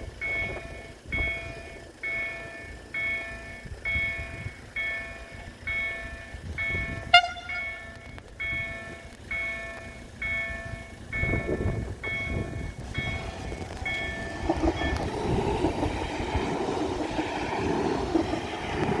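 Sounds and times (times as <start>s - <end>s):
train passing rumble: 0.0s - 19.0s.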